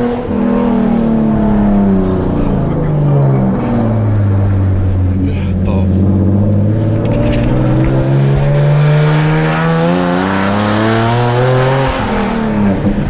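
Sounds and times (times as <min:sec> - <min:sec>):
car exhaust accelerating: 0:00.0 - 0:13.0.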